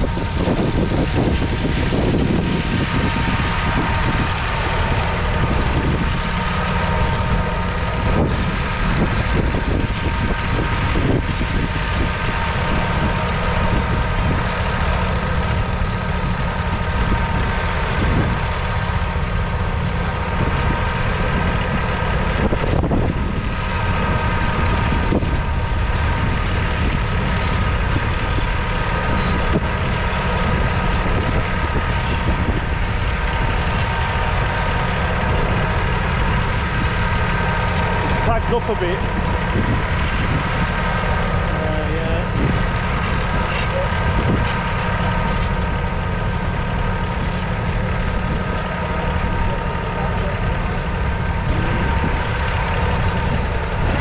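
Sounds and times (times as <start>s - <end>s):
high whine: 0.0s - 54.0s
tractor diesel engine under load: 0.0s - 54.0s.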